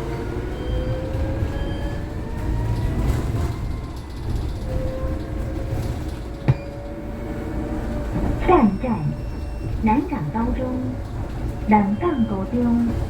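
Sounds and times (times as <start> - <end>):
electric bus motor whining: 0.0 - 13.0.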